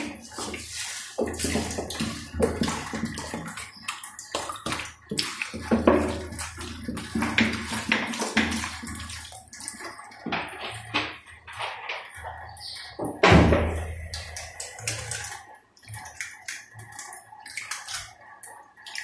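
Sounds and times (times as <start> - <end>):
water splashing in steel bowl: 0.0 - 19.0.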